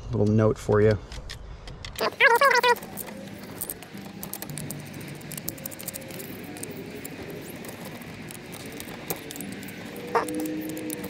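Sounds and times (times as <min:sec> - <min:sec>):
plastic clicks and rattles: 0:01.2 - 0:11.0.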